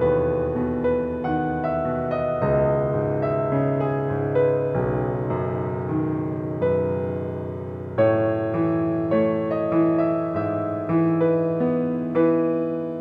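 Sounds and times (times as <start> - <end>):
slow calm piano piece: 0.0 - 13.0.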